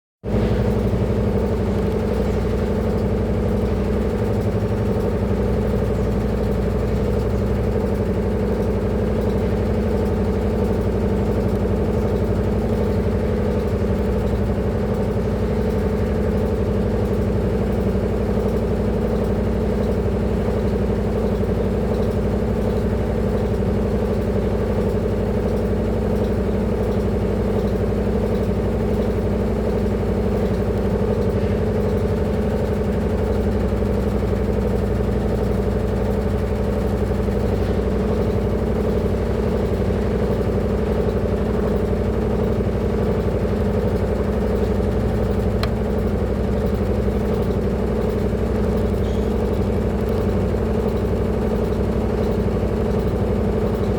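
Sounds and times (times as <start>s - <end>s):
washing machine spinning: 0.3s - 53.9s.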